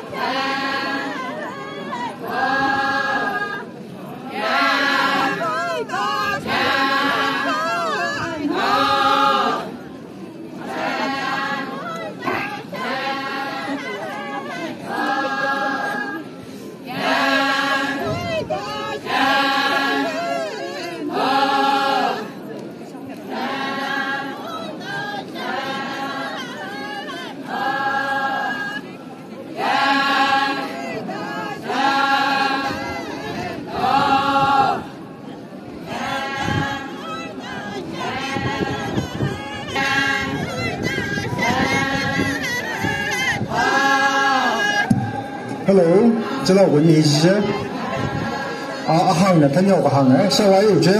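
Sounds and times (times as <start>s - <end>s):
women singing in unison: 0.0s - 46.4s, 47.4s - 48.9s.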